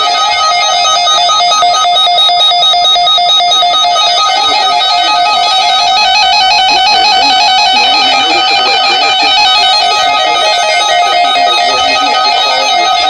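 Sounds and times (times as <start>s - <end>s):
steady held tones: 0.0s - 13.0s.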